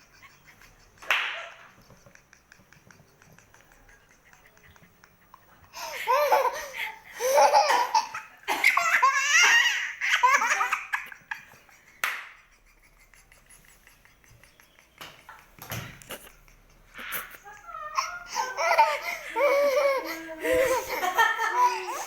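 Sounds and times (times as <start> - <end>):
baby laughing hysterically: 0.0 - 22.0.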